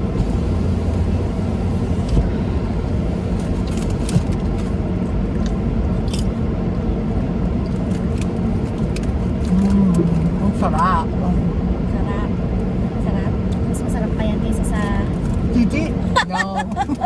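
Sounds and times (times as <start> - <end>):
road rumble inside car: 0.0 - 17.0.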